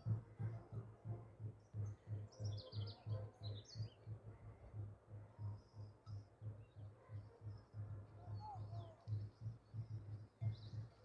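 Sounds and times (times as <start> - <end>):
faint low drum beat: 0.0 - 11.0.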